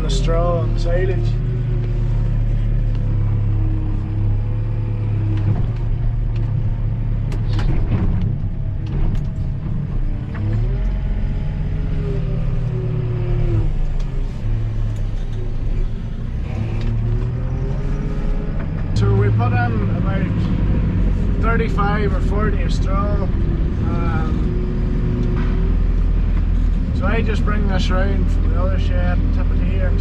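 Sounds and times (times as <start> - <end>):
diesel engine revving: 0.0 - 30.0.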